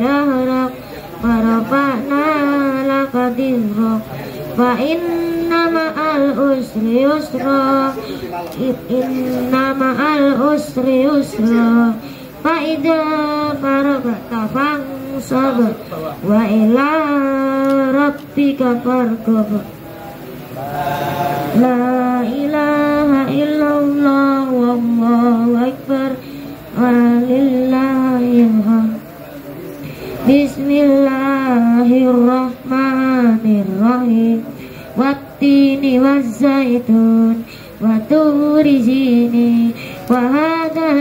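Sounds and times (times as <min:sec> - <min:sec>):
person reciting melodically: 0:00.0 - 0:41.0.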